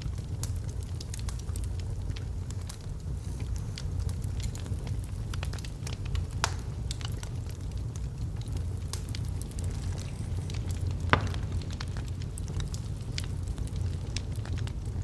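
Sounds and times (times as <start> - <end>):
log fire burning: 0.0 - 15.0.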